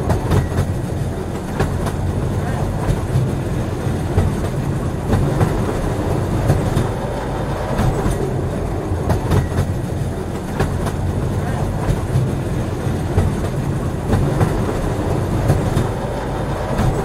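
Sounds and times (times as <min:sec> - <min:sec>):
train rumble: 0:00.0 - 0:17.0
wheels clacking over track: 0:00.0 - 0:17.0.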